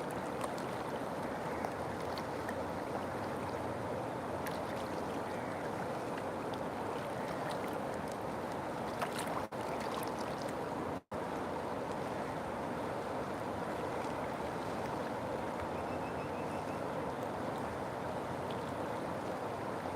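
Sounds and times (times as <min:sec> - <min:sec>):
faint ticks and splashes: 0:00.0 - 0:19.9
river water flowing: 0:00.0 - 0:19.9.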